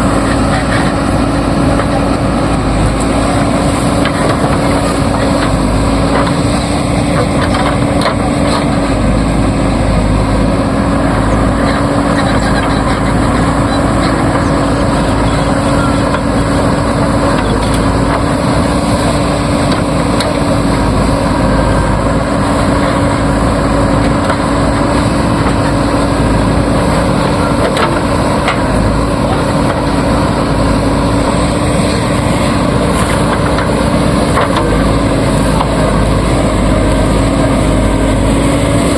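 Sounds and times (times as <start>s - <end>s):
heavy machinery diesel engine: 0.0s - 38.9s.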